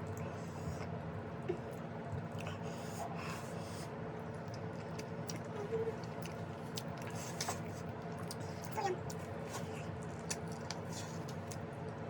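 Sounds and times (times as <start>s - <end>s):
chewing and mouth sounds: 0.0s - 3.2s, 4.2s - 12.0s
low background hum: 0.0s - 12.0s.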